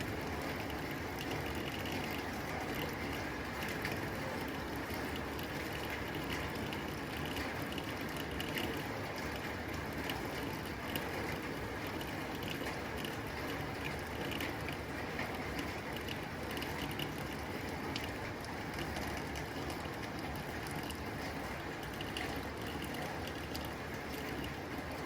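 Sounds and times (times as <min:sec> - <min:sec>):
rain on a tin roof: 0:00.0 - 0:25.0.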